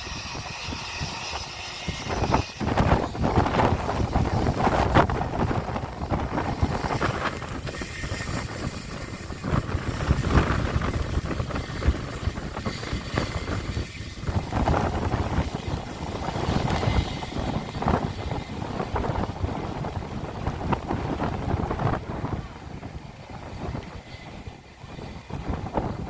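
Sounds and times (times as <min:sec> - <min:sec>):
jet engines running: 0:00.0 - 0:26.0
wind buffeting microphone: 0:00.0 - 0:26.0.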